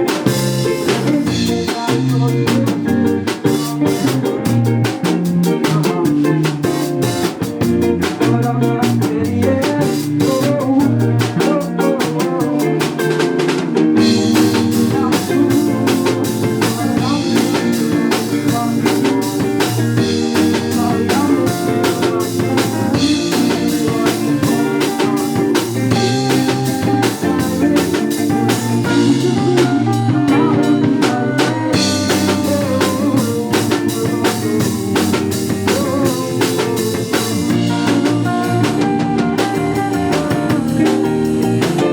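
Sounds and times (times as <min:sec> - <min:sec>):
live band playing: 0:00.0 - 0:41.9
person singing: 0:00.0 - 0:41.9.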